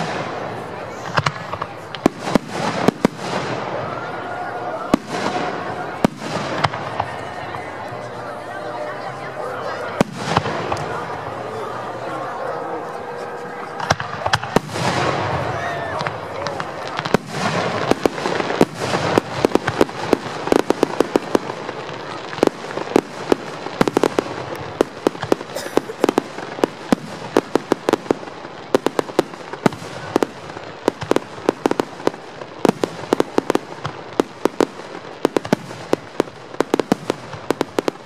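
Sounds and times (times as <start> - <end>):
continuous noisy background: 0.0 - 38.0
fireworks bursting: 0.0 - 38.0.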